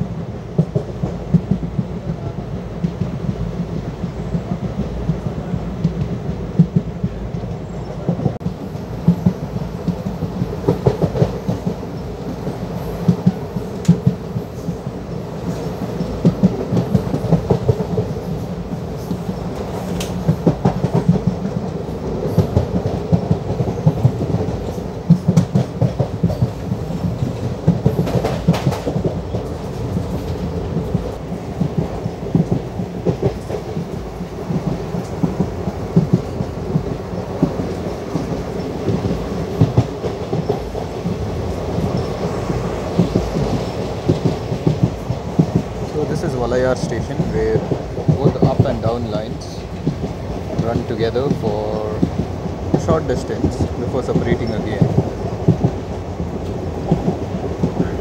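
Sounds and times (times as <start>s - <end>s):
train coach rumble: 0.0s - 58.0s
train wheels clattering over rail joints: 0.5s - 58.0s.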